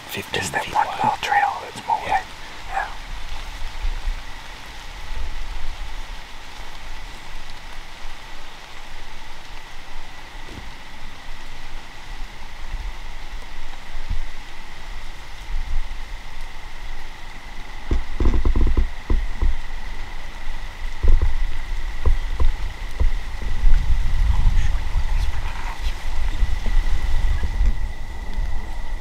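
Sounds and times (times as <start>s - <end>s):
even hiss: 0.0s - 29.0s.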